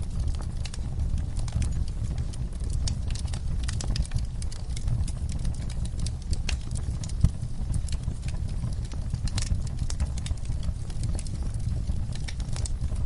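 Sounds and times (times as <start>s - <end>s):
low rumble of flame: 0.0s - 13.0s
wood crackling and popping: 0.0s - 13.0s.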